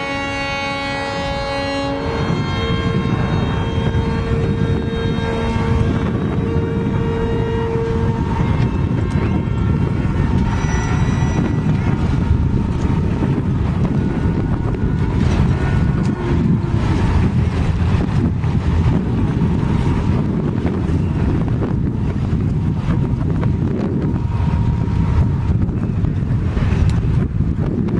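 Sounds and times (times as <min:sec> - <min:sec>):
faint steady tones: 0:00.0 - 0:22.5
wind buffeting microphone: 0:00.0 - 0:27.9.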